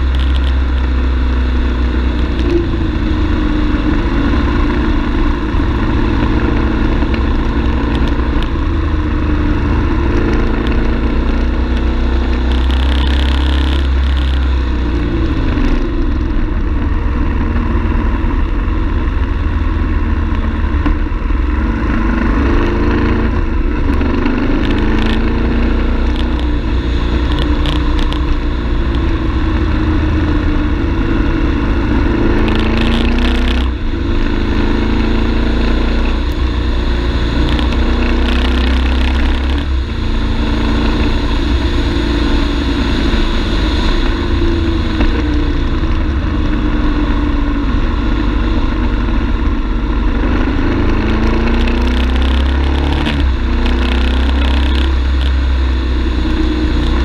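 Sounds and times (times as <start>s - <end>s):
motorcycle engine revving: 0.0s - 57.0s
wind rumbling on microphone: 0.0s - 57.0s.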